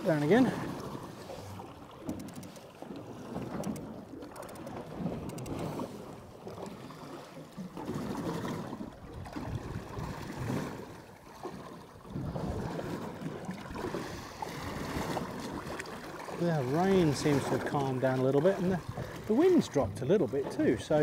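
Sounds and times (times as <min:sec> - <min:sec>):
water slapping against metal hull: 0:00.0 - 0:21.0.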